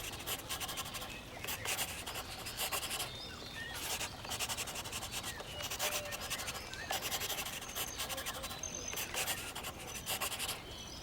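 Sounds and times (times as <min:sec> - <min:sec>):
pen scratching on paper: 0:00.0 - 0:03.1, 0:03.8 - 0:10.6.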